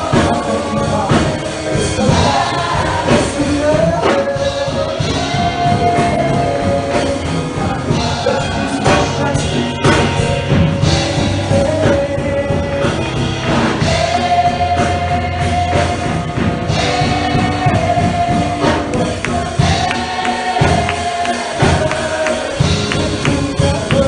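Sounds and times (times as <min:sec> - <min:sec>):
gospel choir singing: 0:00.0 - 0:24.0
live band with drums: 0:00.0 - 0:24.0.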